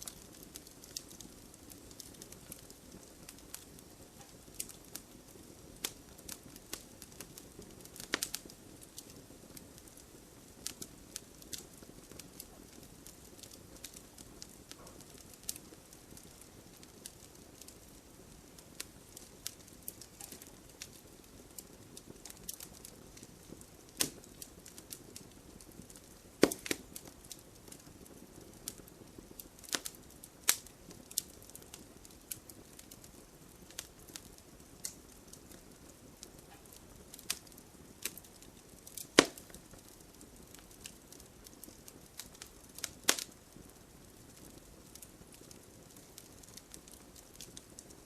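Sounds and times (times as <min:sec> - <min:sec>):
soft steady fire hiss: 0:00.0 - 0:48.0
wood fire crackling and popping: 0:00.0 - 0:48.0.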